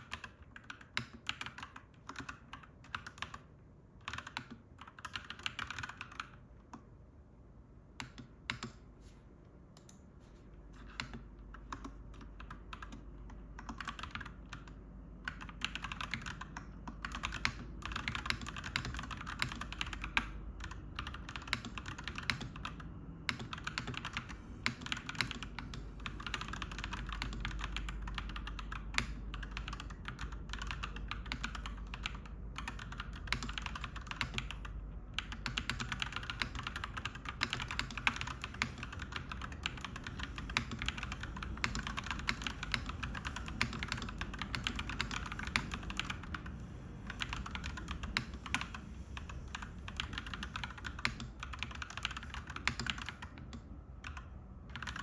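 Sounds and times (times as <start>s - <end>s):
mechanical keyboard typing: 0.0s - 6.8s, 8.0s - 8.8s, 10.8s - 55.0s.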